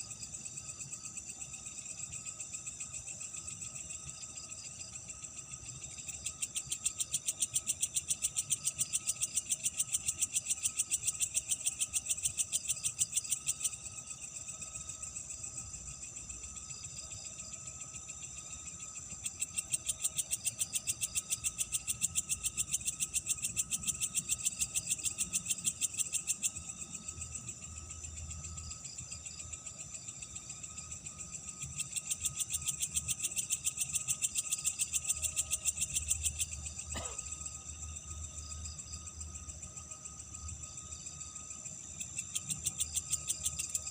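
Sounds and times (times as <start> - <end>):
buzzy pulsed insect call: 0.0 - 43.9
thin high insect chirring: 0.0 - 43.9.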